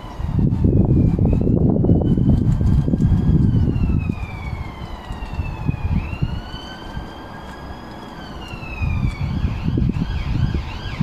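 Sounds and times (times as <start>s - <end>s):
siren wailing and yelping: 0.0s - 11.0s
wind rumbling on microphone: 0.0s - 11.0s.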